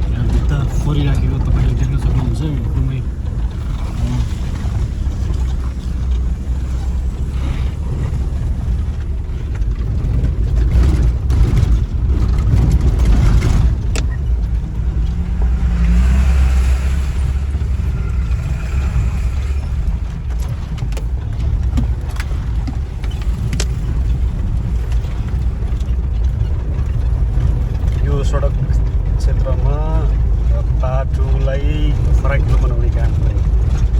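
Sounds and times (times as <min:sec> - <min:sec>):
knocks and rattles: 0:00.0 - 0:33.9
vehicle engine and road rumble: 0:00.0 - 0:33.9.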